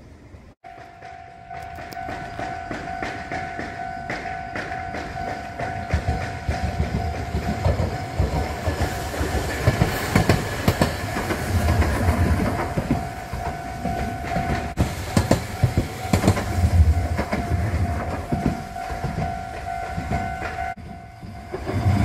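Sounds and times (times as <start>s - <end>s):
tram rumbling over rails: 0.0s - 22.0s
level-crossing warning bell: 0.6s - 22.0s
wheels knocking over rail joints: 0.7s - 21.9s.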